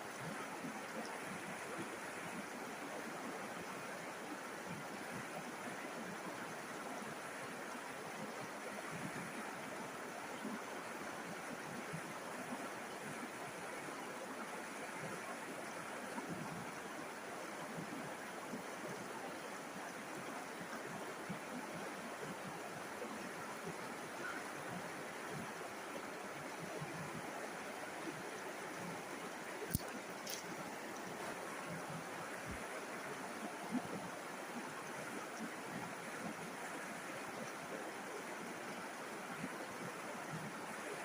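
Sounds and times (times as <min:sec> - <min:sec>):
river water babbling over stones: 0:00.0 - 0:41.0.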